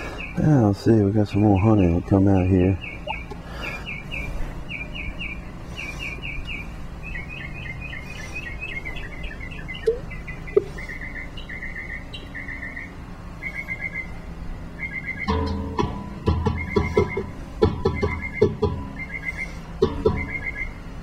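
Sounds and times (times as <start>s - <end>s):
small bird chirping: 0.0s - 15.6s, 16.3s - 21.0s.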